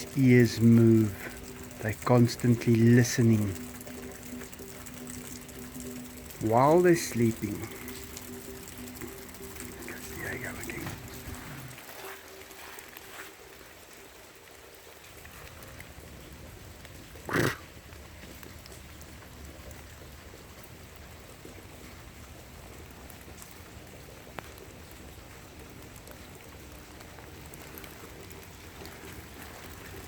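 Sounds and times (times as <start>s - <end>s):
rain falling on leaves: 0.0s - 30.0s.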